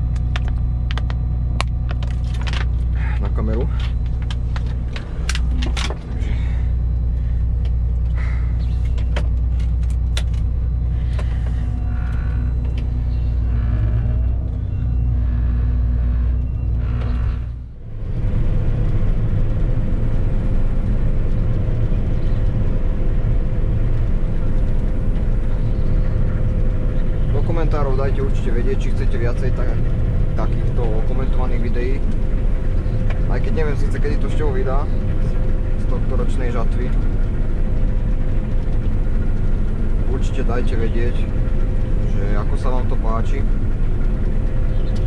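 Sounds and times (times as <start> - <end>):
diesel engine droning: 0.0 - 45.0
faint steady whine: 0.0 - 45.0.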